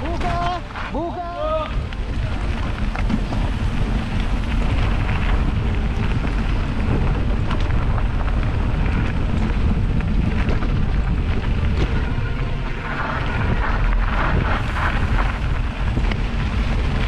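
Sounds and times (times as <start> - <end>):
tyres rumbling on loose ground: 0.0 - 17.0
wind buffeting microphone: 0.0 - 17.0.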